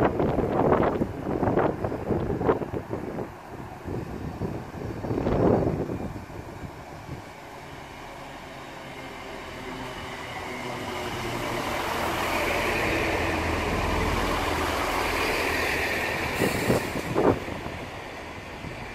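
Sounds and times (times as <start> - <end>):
train passing: 0.0 - 18.9.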